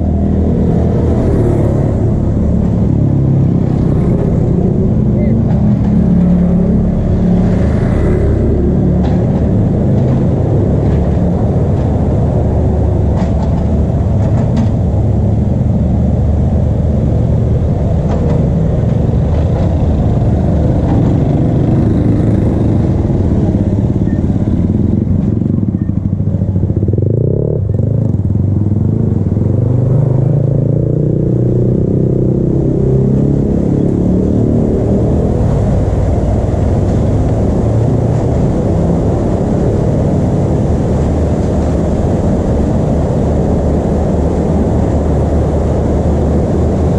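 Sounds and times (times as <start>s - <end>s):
motorcycles passing by: 0.0s - 46.9s.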